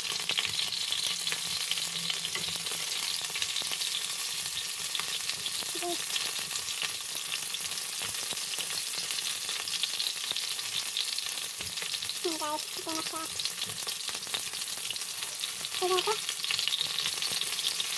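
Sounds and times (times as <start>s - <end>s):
chicken wings sizzling in oil: 0.0s - 17.9s.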